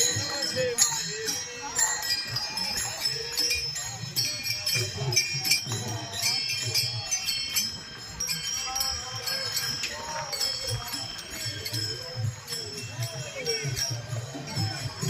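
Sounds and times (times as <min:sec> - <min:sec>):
drums beating: 0:00.0 - 0:15.0
metallic jingling: 0:00.0 - 0:15.0
voices chanting: 0:00.0 - 0:15.0.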